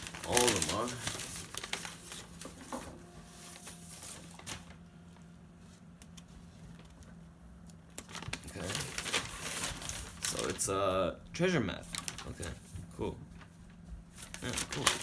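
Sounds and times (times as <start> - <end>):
paper sheet rustling: 0.0 - 7.1, 8.0 - 10.8, 11.8 - 15.0.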